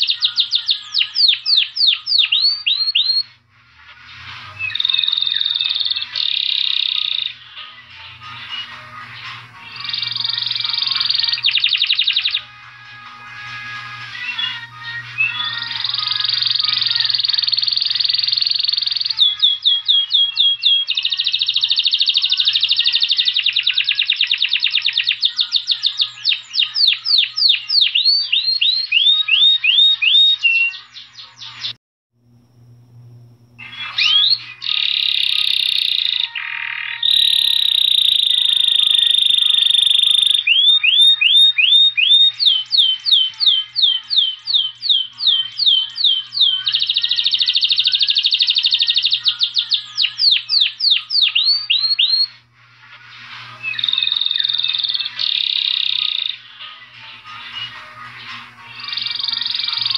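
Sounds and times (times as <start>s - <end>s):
finch singing buzzy trills: 0.0s - 3.4s, 4.3s - 31.8s, 33.6s - 52.4s, 53.0s - 59.9s.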